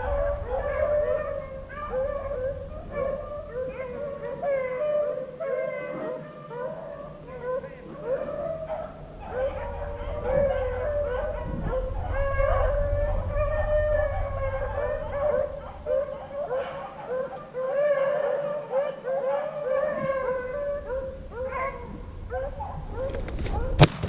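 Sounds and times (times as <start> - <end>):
low rumble: 0.0 - 5.5, 6.8 - 18.0, 19.7 - 24.0
dogs baying: 0.0 - 23.9.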